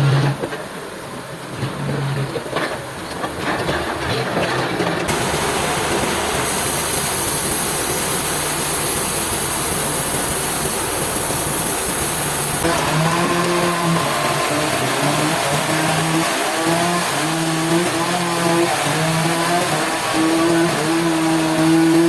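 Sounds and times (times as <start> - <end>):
heavy machinery running: 1.6 - 22.0.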